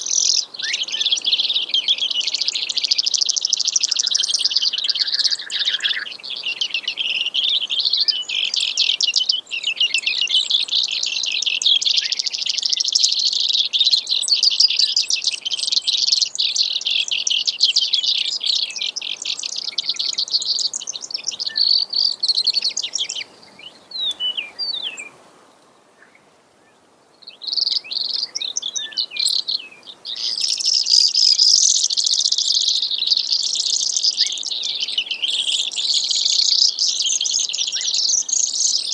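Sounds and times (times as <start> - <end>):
sparrow singing rapid trills: 0.0 - 25.2, 27.2 - 38.9.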